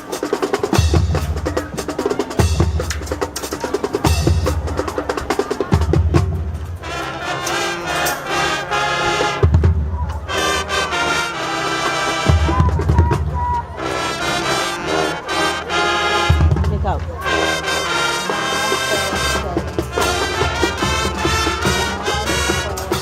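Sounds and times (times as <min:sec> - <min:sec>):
brass chords: 0:00.0 - 0:23.0
rapid snare drum strokes: 0:00.0 - 0:23.0.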